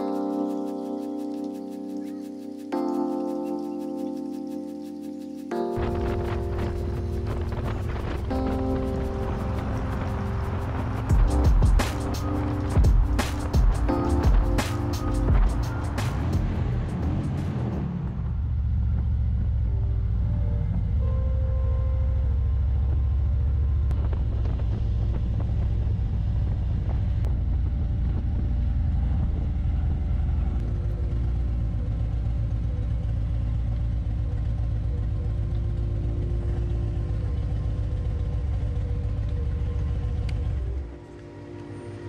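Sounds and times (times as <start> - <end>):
motorcycle engine rumbling: 5.6 - 42.0.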